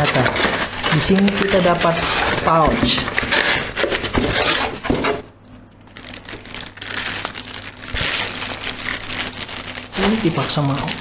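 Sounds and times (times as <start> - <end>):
packaging rustling and crinkling: 0.0 - 5.2, 5.9 - 11.0.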